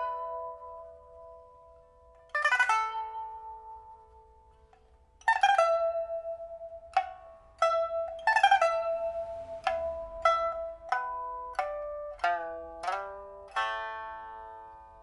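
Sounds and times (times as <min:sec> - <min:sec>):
pipa rolled chords and plucks: 0:00.0 - 0:15.0.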